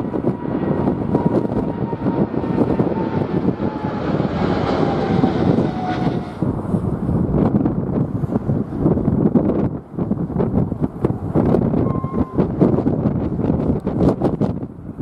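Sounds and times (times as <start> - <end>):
jet airliner passing: 0.0 - 15.0
wind buffeting microphone: 0.0 - 15.0.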